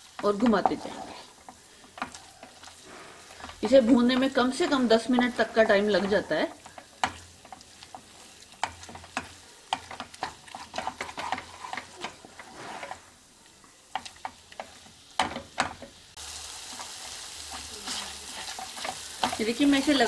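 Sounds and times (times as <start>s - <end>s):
wooden spatula scraping a pan: 0.0s - 13.2s, 16.7s - 20.0s
ghee sizzling: 0.0s - 20.0s.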